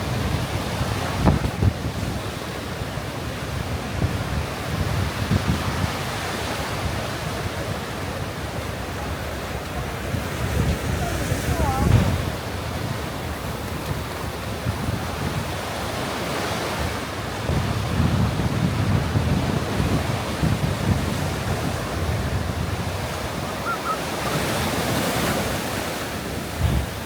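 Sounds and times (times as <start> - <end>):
surf breaking on a sandy beach: 0.0 - 27.0
wind buffeting the microphone: 0.0 - 27.0.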